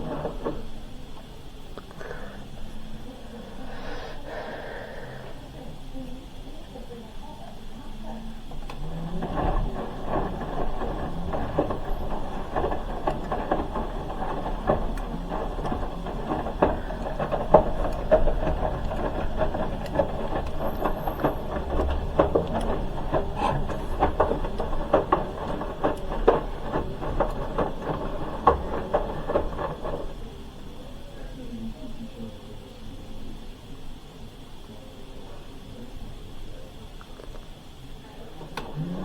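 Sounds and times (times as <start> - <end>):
washing machine drum tumbling: 0.0 - 4.4, 5.2 - 32.6, 38.0 - 39.0.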